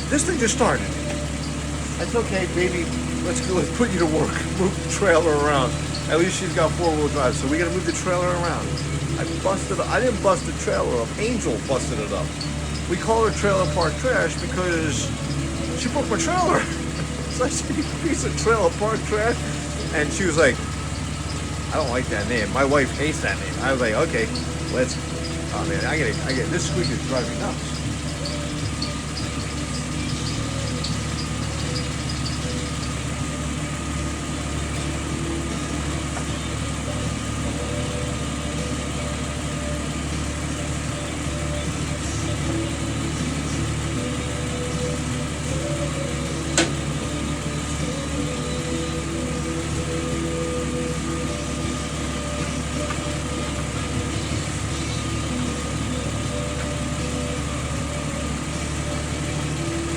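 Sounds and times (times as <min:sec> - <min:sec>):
car engine idling: 0:00.0 - 0:59.9
drive belt squeaking: 0:00.0 - 0:59.9.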